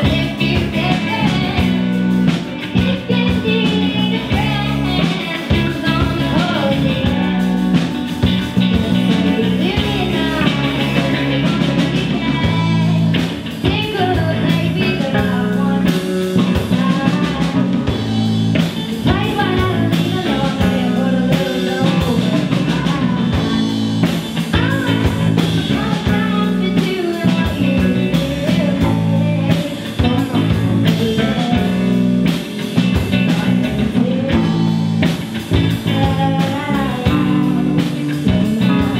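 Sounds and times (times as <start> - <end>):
rock band playing: 0.0 - 38.9
woman singing: 0.0 - 38.9.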